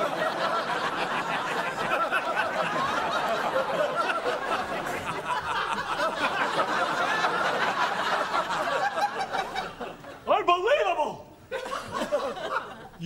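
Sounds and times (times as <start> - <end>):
crowd laughing: 0.0 - 10.4, 11.4 - 13.0.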